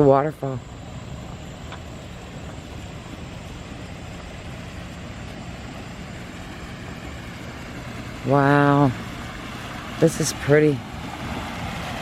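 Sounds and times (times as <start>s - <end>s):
waterfall rushing: 2.2s - 12.0s.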